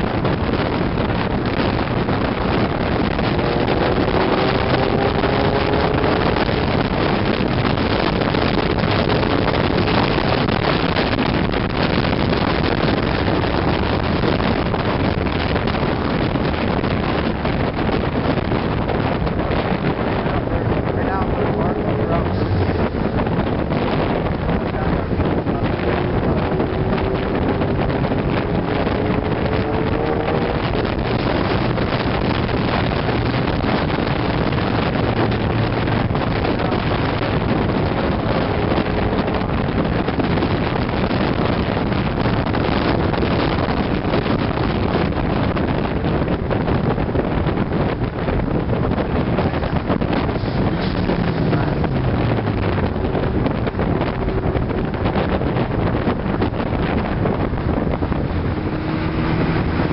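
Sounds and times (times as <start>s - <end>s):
car engine: 0.0s - 59.9s
road noise: 0.0s - 59.9s
wind rushing over microphone: 0.0s - 59.9s.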